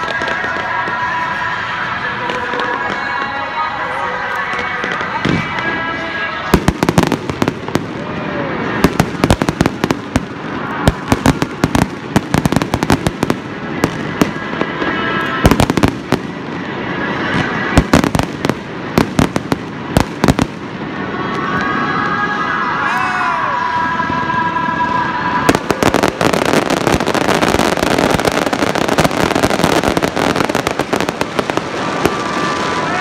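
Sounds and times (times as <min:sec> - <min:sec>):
fireworks bangs and crackles: 0:00.0 - 0:22.8, 0:24.0 - 0:33.0.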